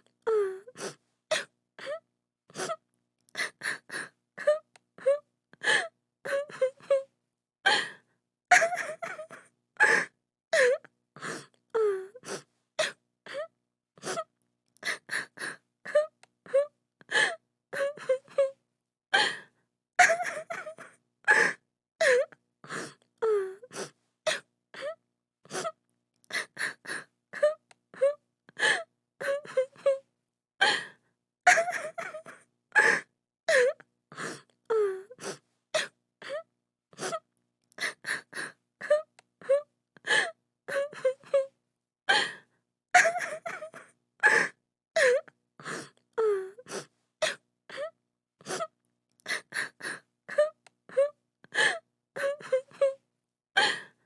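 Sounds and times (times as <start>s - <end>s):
woman sobbing and whimpering: 0.3s - 2.8s, 3.4s - 7.1s, 7.7s - 18.6s, 20.0s - 42.4s, 43.0s - 53.0s.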